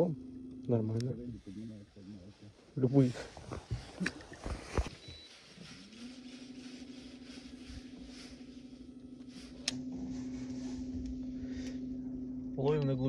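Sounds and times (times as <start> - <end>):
electric motor whine and hum: 0.0 - 13.0.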